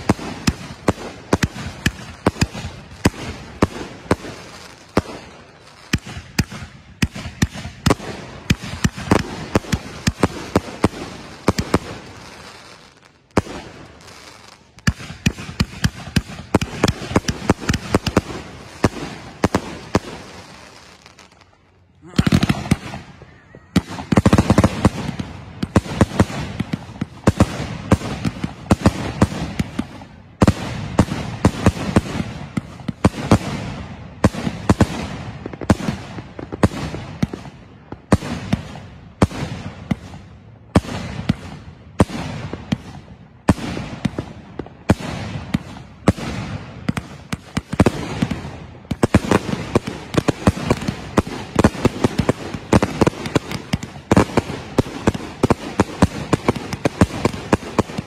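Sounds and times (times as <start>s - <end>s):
fireworks bangs and pops: 0.0s - 58.0s.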